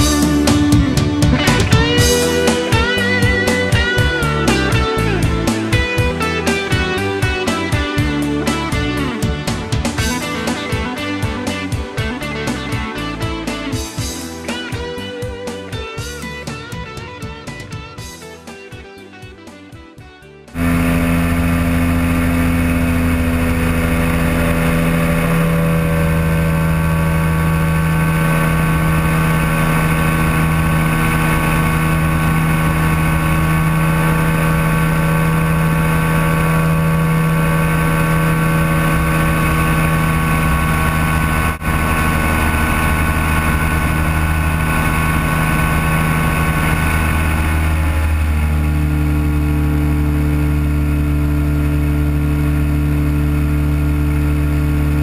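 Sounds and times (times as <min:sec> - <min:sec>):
engine and propeller running: 0:00.0 - 0:55.0.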